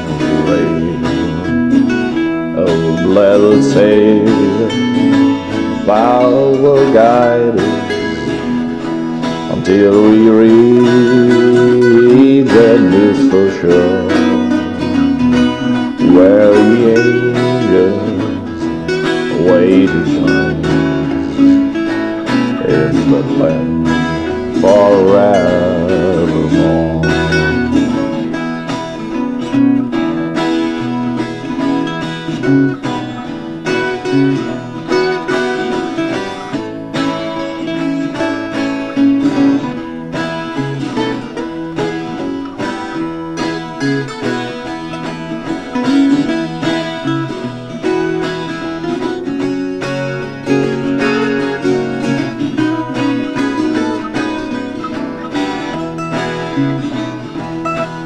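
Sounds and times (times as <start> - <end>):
banjo: 0.0 - 58.0
picked acoustic guitar: 0.0 - 58.0.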